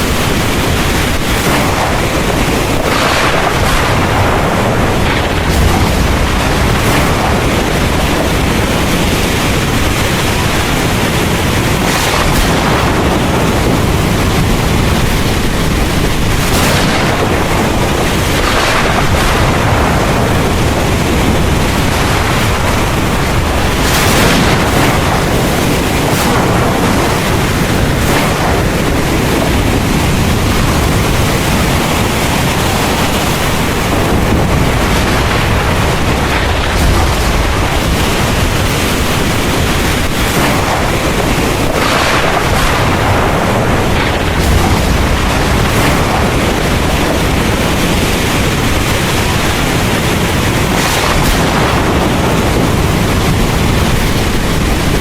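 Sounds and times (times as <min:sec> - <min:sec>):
heavy rain falling: 0:00.0 - 0:55.0
low rumble: 0:00.0 - 0:55.0.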